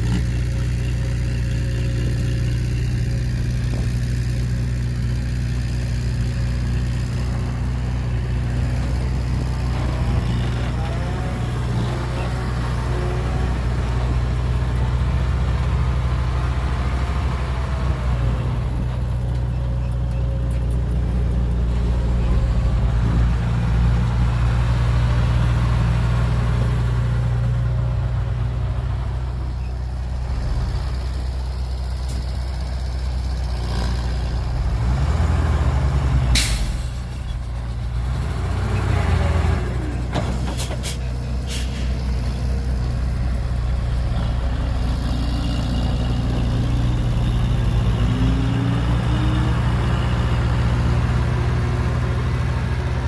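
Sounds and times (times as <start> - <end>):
heavy diesel machinery droning: 0.0 - 53.0.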